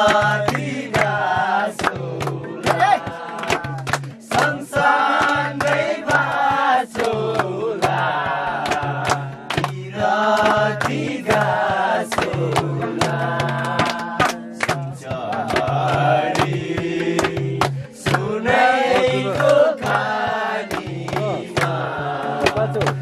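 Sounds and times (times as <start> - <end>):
group of voices singing: 0.0 - 23.0
sharp percussive hits: 0.0 - 23.0.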